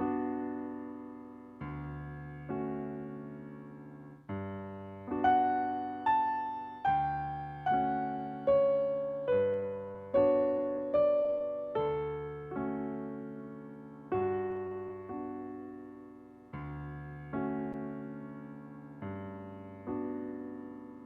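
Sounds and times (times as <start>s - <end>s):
slow solo piano chords: 0.0s - 21.0s.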